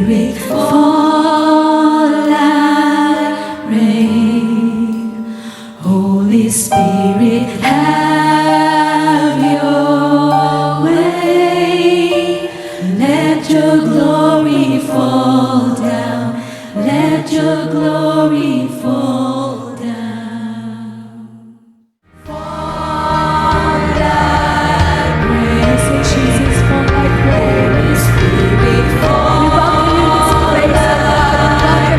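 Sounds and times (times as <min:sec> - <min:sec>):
sustained instrument chords: 0:00.0 - 0:18.0, 0:22.1 - 0:31.9
voices singing long notes: 0:00.0 - 0:31.9.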